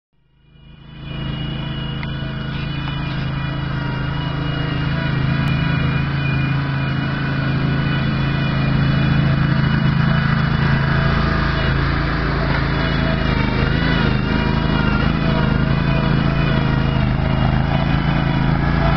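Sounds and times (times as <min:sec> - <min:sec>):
backhoe engine running: 0:00.4 - 0:18.9.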